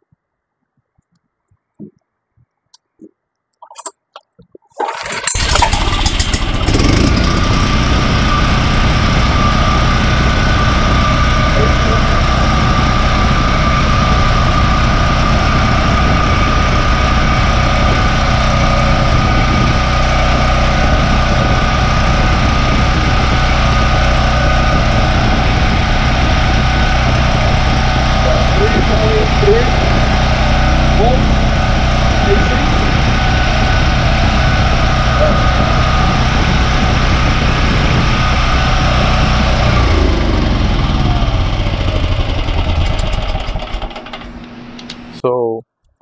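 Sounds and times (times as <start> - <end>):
generator engine starting and running: 3.6 - 45.4.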